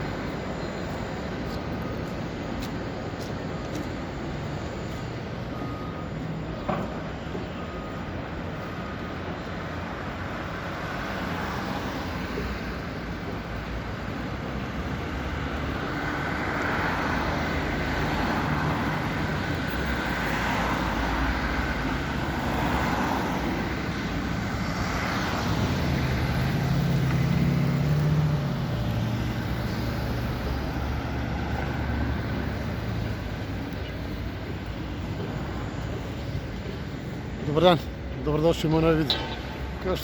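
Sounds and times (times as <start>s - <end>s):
heavy vehicle engine hum: 0.0s - 40.0s
passing vehicles: 0.0s - 40.0s.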